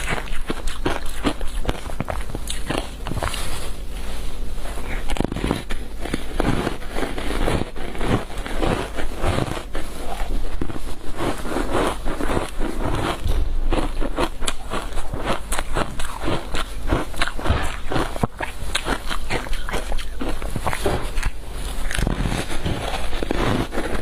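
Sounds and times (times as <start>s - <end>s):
crunching frozen ice: 0.0s - 3.7s, 4.8s - 24.0s.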